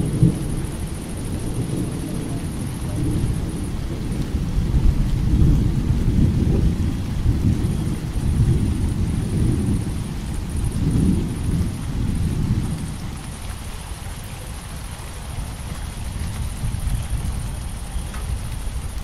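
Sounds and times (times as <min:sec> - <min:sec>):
crickets chirping: 0:00.0 - 0:19.0
steady rain: 0:00.0 - 0:19.0
thunder rumbling: 0:00.0 - 0:19.0.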